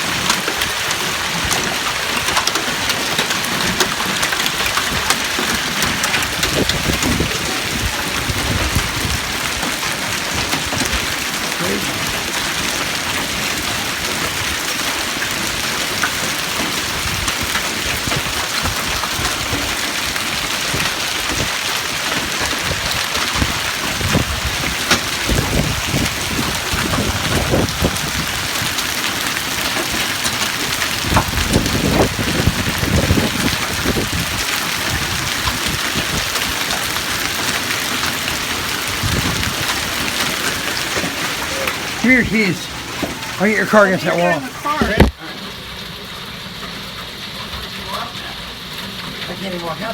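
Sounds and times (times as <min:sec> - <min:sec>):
hailstones striking hard surfaces: 0:00.0 - 0:45.2
heavy rain and hail: 0:00.0 - 0:49.9.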